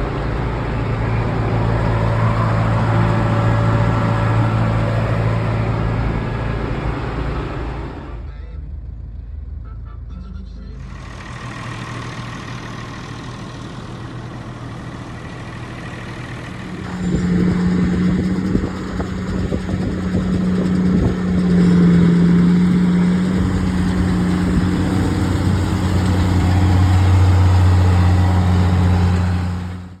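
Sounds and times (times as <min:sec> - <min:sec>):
farm machinery engines running: 0:00.0 - 0:30.0.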